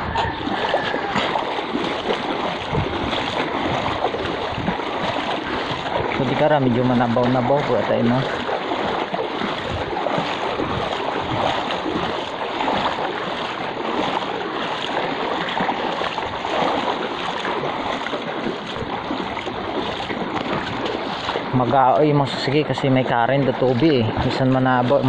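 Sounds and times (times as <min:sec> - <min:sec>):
flowing water rushing: 0:00.0 - 0:25.0
water sloshing around wading legs: 0:00.0 - 0:25.0.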